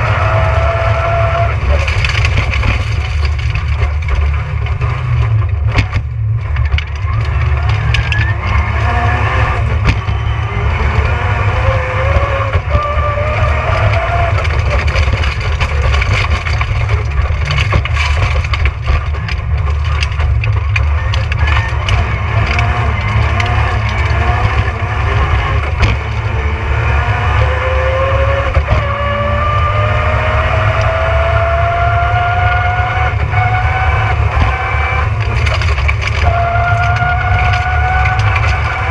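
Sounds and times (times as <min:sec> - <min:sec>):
car engine revving: 0:00.0 - 0:38.9
car knocks and rattles: 0:00.0 - 0:38.9.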